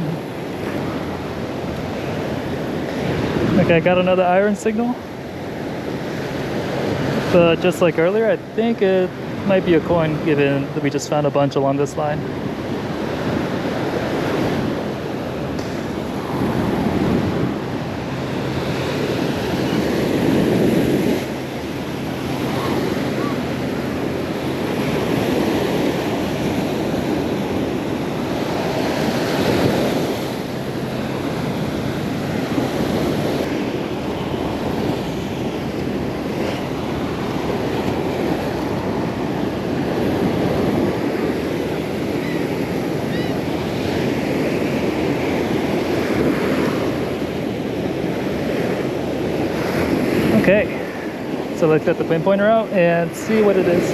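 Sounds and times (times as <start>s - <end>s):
surf washing on a beach: 0.0s - 53.9s
wind buffeting microphone: 0.0s - 53.9s.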